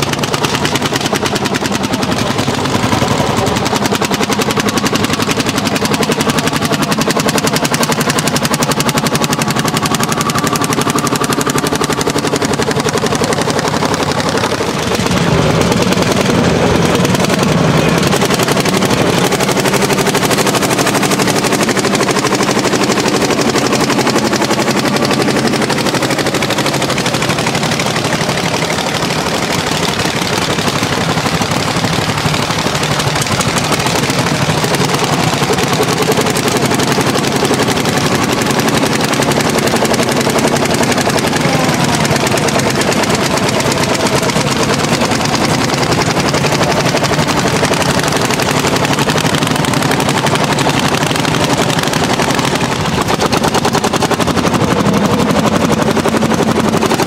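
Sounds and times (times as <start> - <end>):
tractor engines pulling under load: 0.0 - 57.0.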